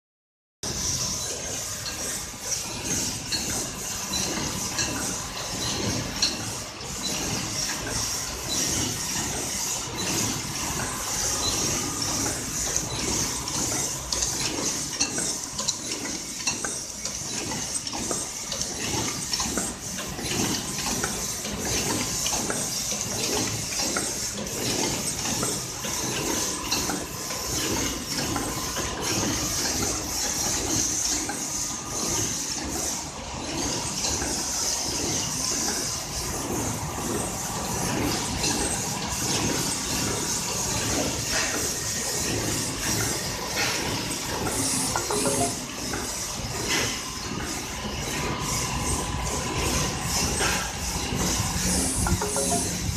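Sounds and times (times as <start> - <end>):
rhythmic metallic machine clatter: 0.6 - 52.9.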